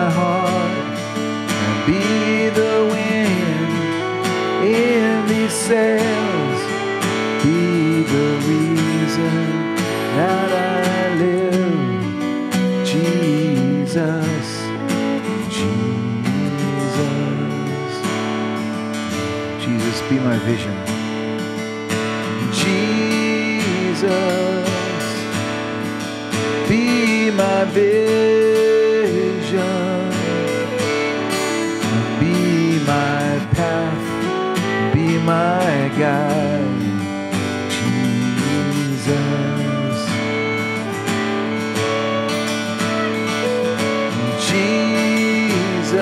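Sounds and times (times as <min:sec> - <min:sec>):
strummed acoustic guitar: 0:00.0 - 0:46.0.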